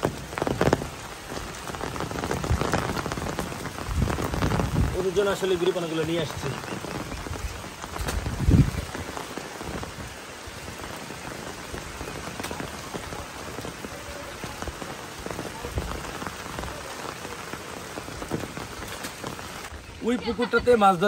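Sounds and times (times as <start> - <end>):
rain falling on a pond: 0.0 - 21.0.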